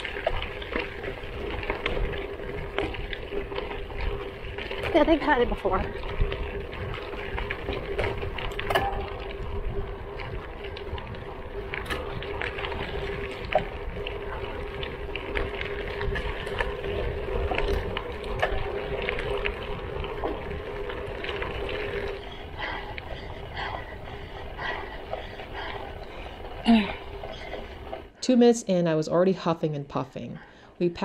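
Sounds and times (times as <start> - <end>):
bike tyres crunching gravel: 0.0 - 28.1.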